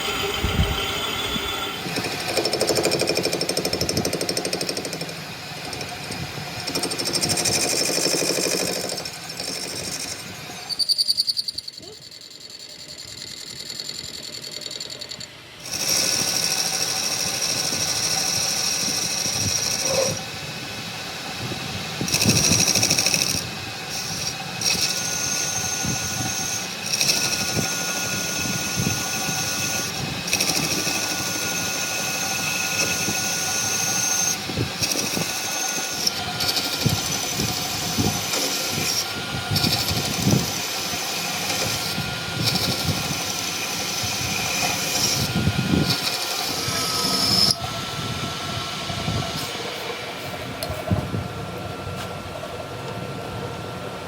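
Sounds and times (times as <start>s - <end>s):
power tool running: 0.0s - 52.5s.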